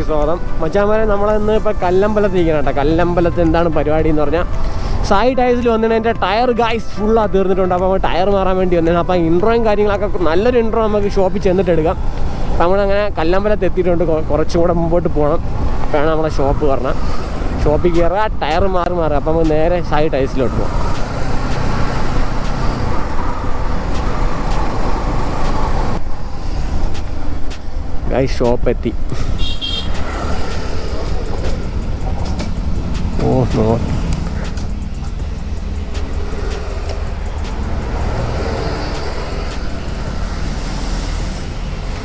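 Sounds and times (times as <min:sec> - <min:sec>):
wind and road noise: 0:00.0 - 0:42.0.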